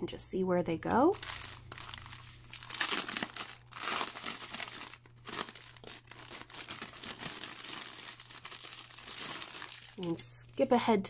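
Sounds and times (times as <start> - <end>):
plastic bags crinkling: 1.0 - 10.6.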